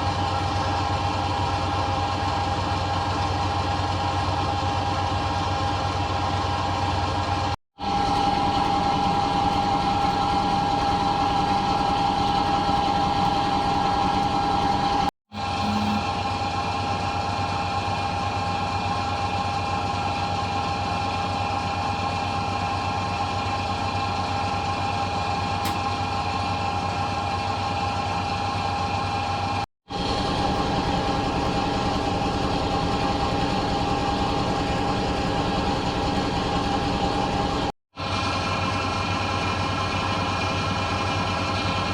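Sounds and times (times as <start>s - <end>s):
washing machine spinning: 0.0s - 15.1s, 23.4s - 41.9s.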